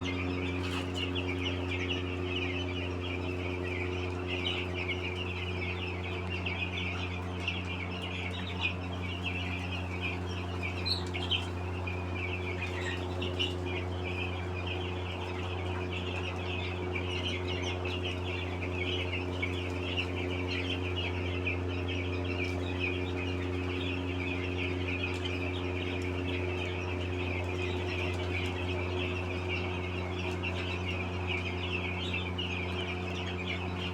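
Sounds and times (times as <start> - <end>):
chickens calling: 0.0 - 33.9
low mechanical hum: 0.0 - 33.9.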